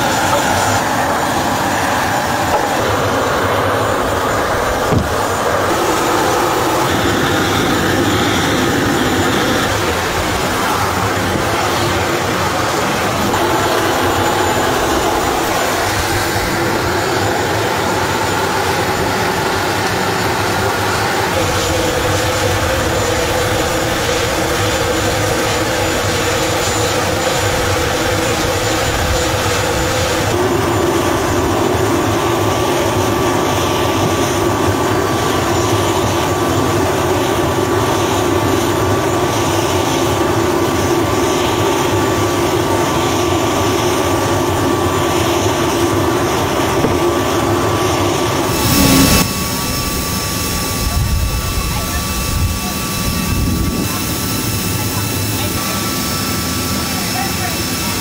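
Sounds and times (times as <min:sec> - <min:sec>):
constant high whine: 0:00.0 - 0:58.0
jet turbines roaring: 0:00.0 - 0:58.0.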